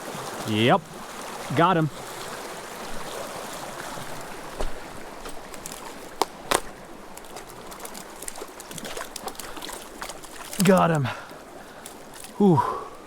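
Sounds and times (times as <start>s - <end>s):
creek running over boulders: 0.0s - 13.0s.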